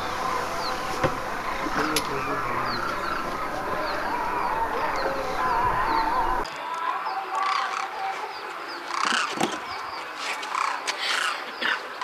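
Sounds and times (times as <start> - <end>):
flock of cranes calling: 0.0 - 6.5, 8.8 - 12.0.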